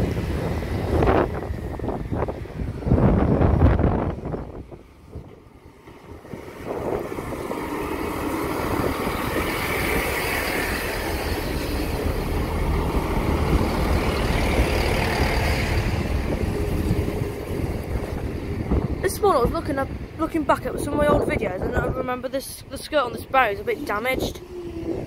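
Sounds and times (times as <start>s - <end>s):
diesel engines running: 0.0s - 25.0s
train wheels rolling on rails: 0.0s - 25.0s.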